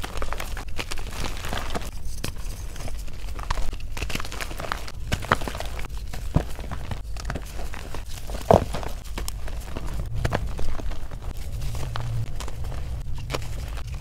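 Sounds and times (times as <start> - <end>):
powder crumbling in hands: 0.0 - 14.0.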